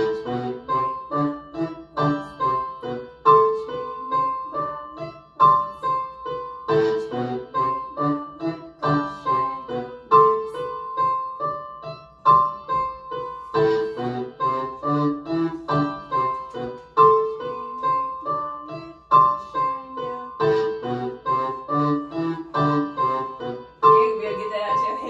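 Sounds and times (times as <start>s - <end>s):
piano-toned keyboard music: 0.0s - 25.0s.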